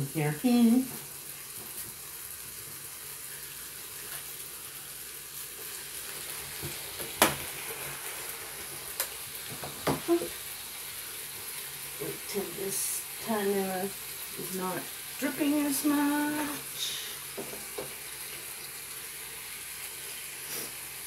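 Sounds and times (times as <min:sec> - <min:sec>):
chicken sizzling in waffle maker: 0:00.0 - 0:21.0.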